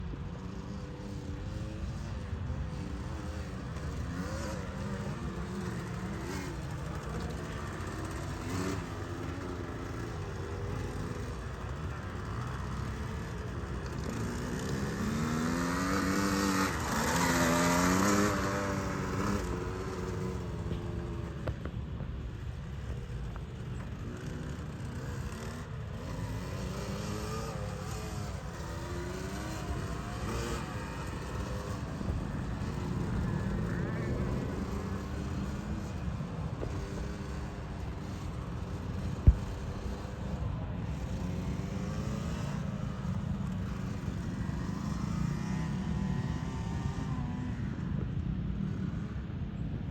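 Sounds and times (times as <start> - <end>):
dirt bike engine revving: 0.3 - 47.7.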